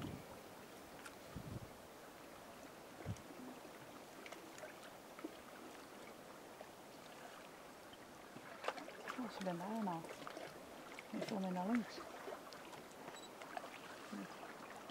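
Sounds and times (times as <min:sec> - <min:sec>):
faint outdoor hiss: 0:00.0 - 0:14.9.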